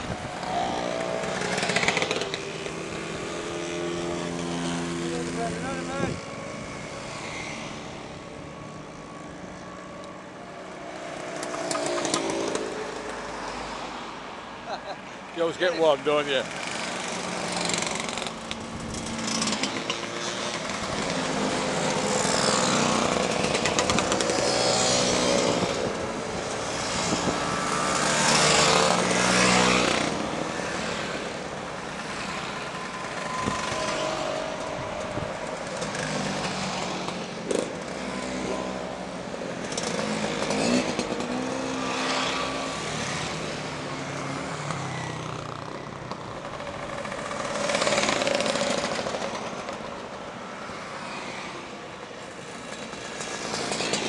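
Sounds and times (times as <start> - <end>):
motor scooters buzzing past: 0.0 - 54.0.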